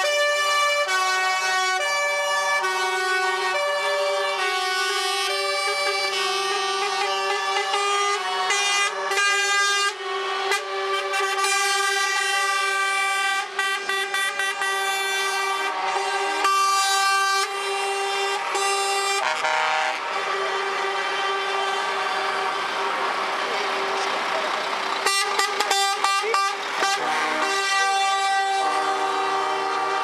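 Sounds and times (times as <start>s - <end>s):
truck air horns blowing: 0.0s - 24.0s, 25.0s - 30.0s.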